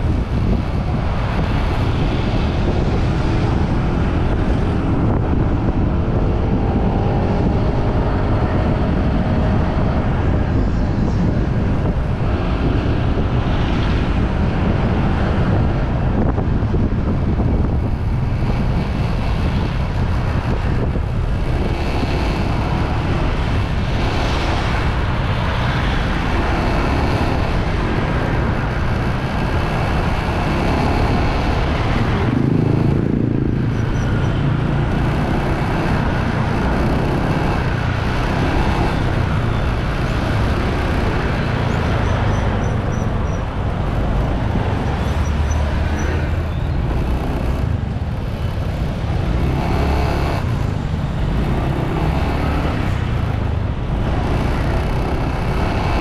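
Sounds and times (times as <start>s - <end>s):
road noise: 0.0s - 56.0s
wind rushing over microphone: 0.0s - 56.0s.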